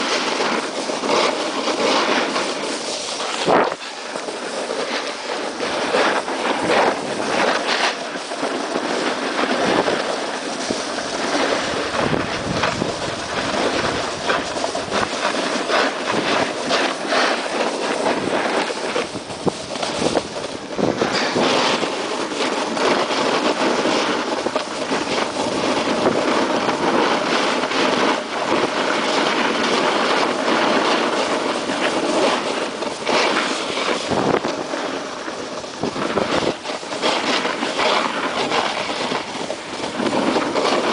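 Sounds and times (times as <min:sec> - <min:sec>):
snowboard scraping hiss on snow: 0:00.0 - 0:40.9.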